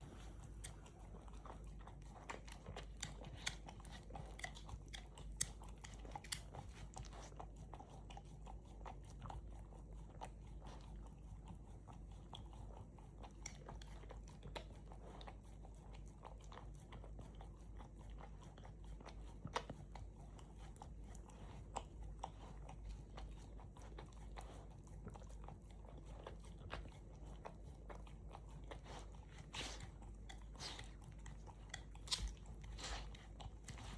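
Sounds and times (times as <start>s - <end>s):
puppy licking and chewing: 0.0s - 33.9s.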